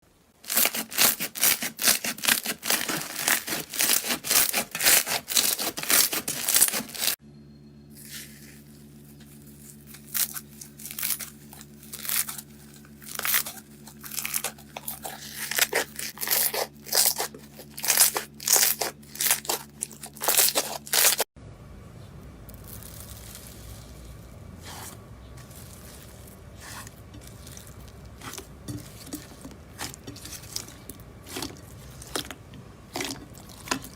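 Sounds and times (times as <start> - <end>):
low electrical hum: 0.0 - 33.9
slime crackling and squelching: 0.4 - 7.2, 7.9 - 21.3, 22.5 - 33.9.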